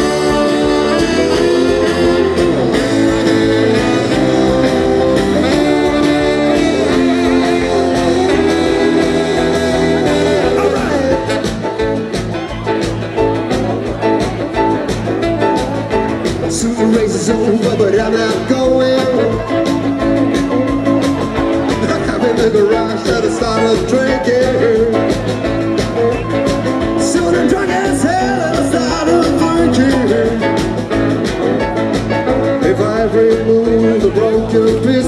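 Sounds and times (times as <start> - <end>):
live rockabilly band playing: 0.0 - 35.0.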